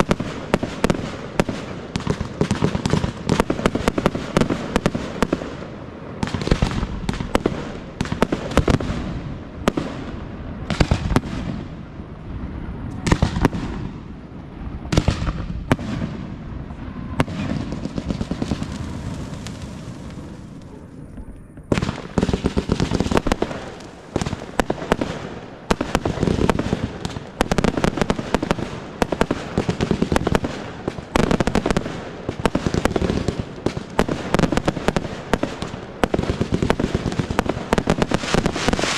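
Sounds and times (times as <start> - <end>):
fireworks bangs: 0.0 - 38.9
fireworks crackle: 0.0 - 38.9.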